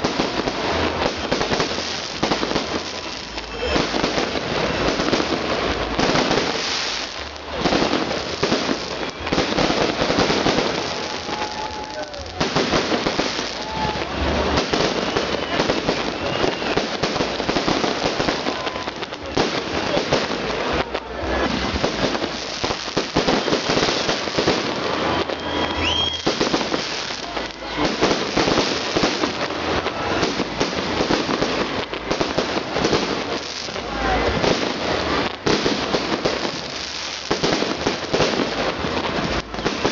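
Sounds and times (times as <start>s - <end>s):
deep fireworks booms: 0.0s - 39.9s
fireworks crackling and popping: 0.0s - 39.9s.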